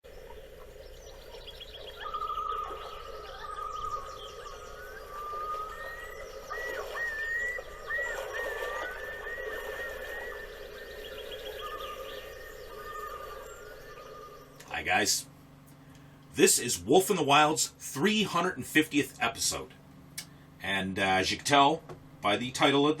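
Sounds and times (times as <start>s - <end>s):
songbirds singing: 0.0s - 18.4s
steady low hum: 0.0s - 23.0s.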